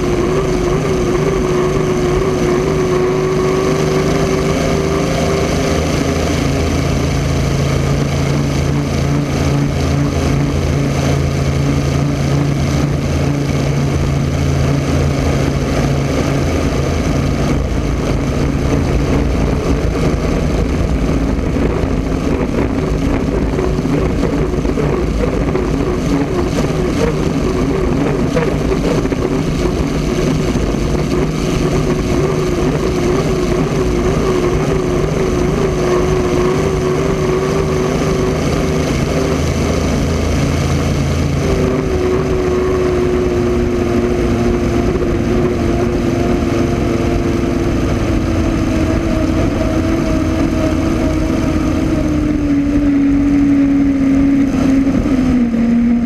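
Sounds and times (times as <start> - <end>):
boat engine running hard: 0.0 - 56.0.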